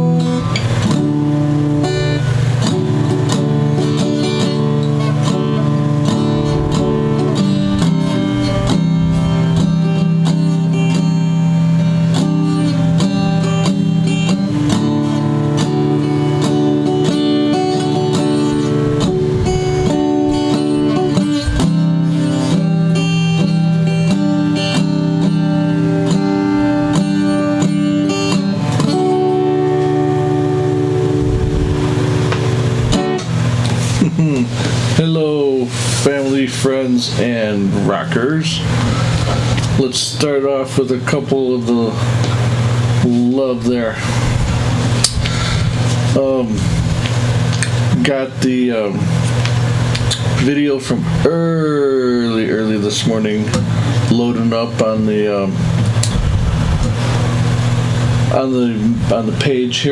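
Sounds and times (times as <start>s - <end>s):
strummed acoustic guitar: 0.0s - 59.9s.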